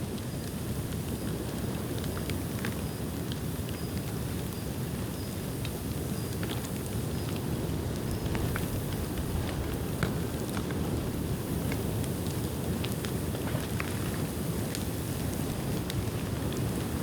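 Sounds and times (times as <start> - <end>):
low rumble of flames: 0.0 - 17.0
fire crackling and popping: 0.1 - 17.0.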